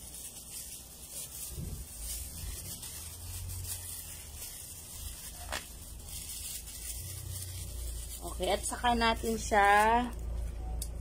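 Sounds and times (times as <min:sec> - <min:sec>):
plastic sheet rustling: 0:00.0 - 0:10.4.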